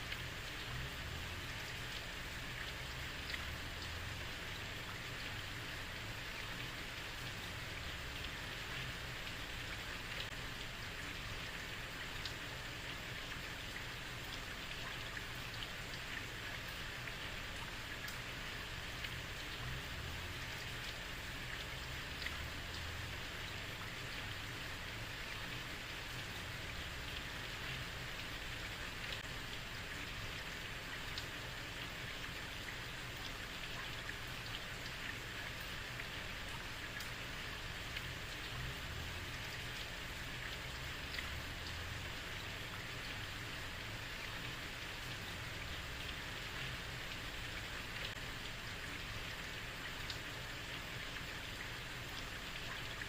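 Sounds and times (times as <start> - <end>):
heavy rain on a street: 0.0 - 53.0.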